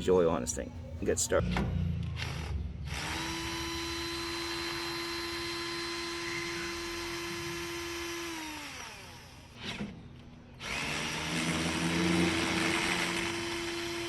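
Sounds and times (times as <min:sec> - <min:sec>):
electric power tool whining: 0:02.2 - 0:10.0, 0:10.6 - 0:14.0.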